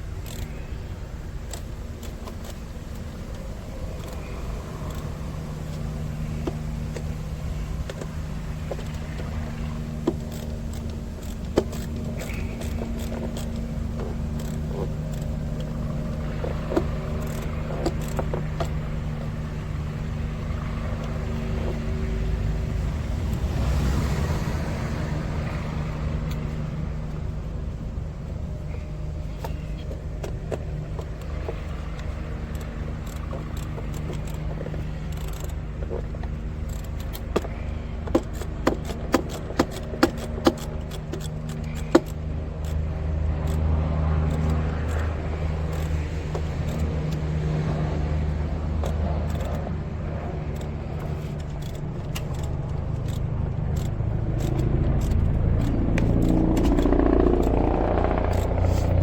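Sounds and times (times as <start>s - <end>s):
low mechanical hum: 0.0s - 59.0s
sharp metallic clicks: 0.0s - 59.0s.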